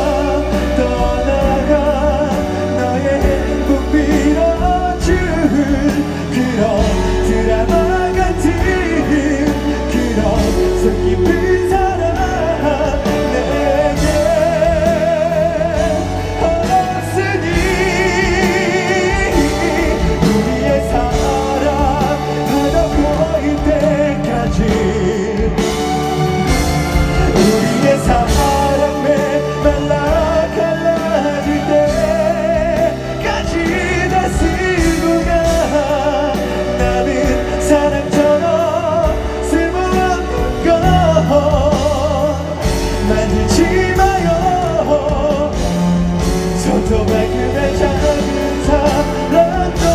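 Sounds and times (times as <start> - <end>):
band with drums: 0.0 - 49.9
man singing with vibrato: 0.0 - 49.9.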